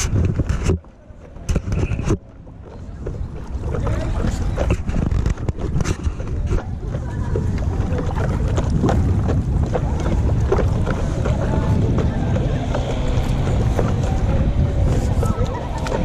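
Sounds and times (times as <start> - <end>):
paddle splashing water: 0.0 - 16.0
wind rumbling on microphone: 0.0 - 16.0.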